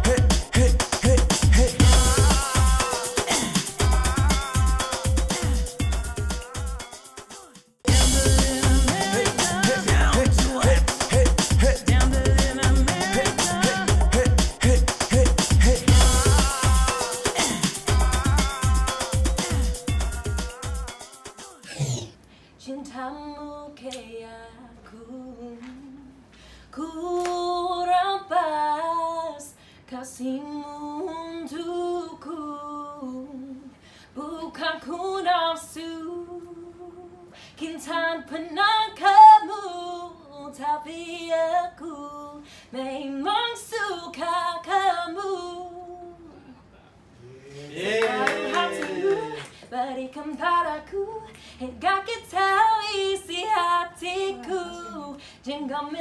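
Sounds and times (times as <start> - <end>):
woman singing unaccompanied: 0.0 - 21.6, 22.6 - 46.4, 47.8 - 56.0.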